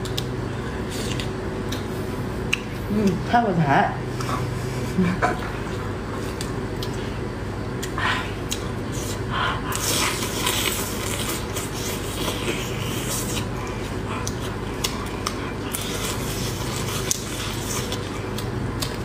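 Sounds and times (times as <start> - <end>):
crunching and chewing shrimp: 0.0 - 2.8, 5.4 - 19.0.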